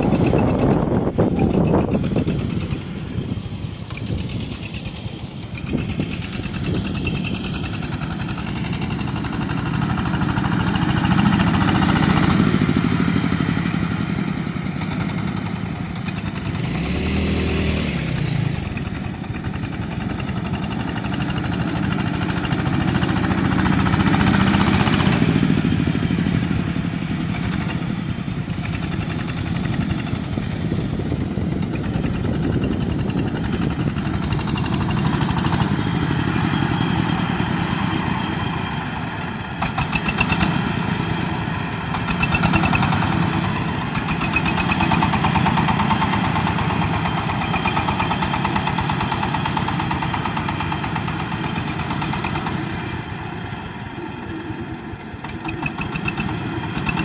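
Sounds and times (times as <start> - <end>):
machine engine running: 0.0 - 57.0.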